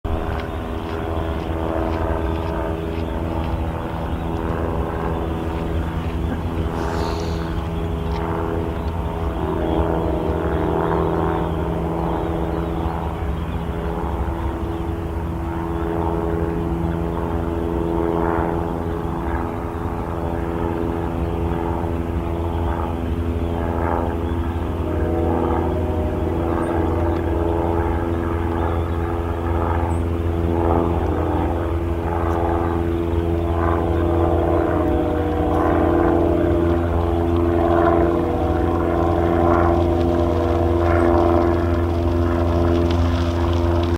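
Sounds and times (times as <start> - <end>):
engine drone: 0.0 - 43.9.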